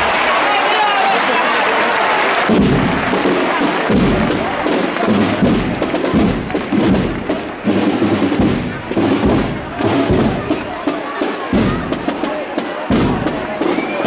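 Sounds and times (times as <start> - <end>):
brass and drum band playing: 2.0 - 14.0
low drum beat: 2.5 - 13.9.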